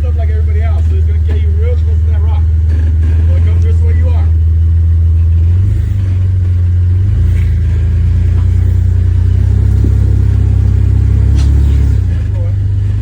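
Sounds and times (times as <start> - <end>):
engine deep rumble at low revs: 0.0 - 13.0.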